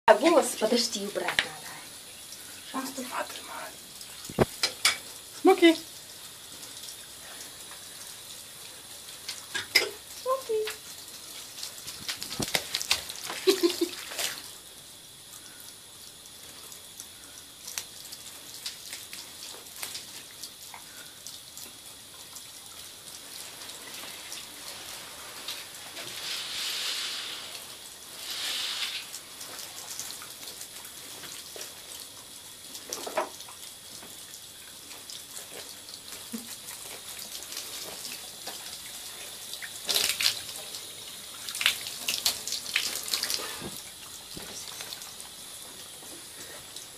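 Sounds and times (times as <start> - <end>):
shower water running into bathtub: 0.1 - 46.9.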